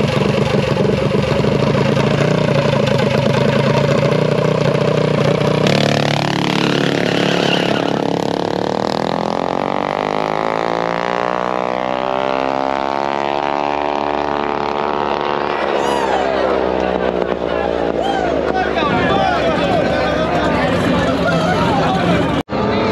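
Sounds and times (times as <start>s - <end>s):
engine accelerating hard: 0.0s - 22.9s.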